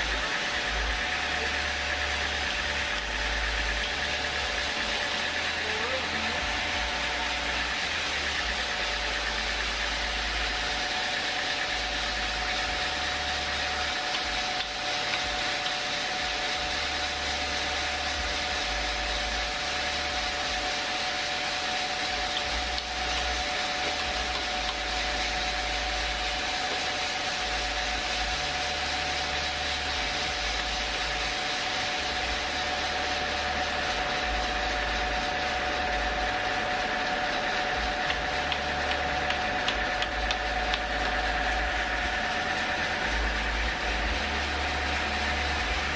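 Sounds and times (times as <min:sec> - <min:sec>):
sawmill machinery drone: 0:00.0 - 0:45.9
steady machine whine: 0:00.0 - 0:45.9.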